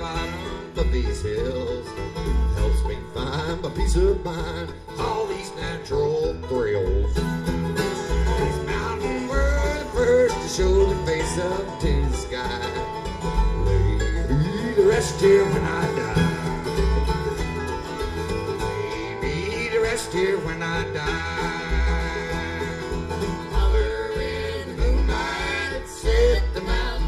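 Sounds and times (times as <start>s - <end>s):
bluegrass music: 0.0s - 27.0s.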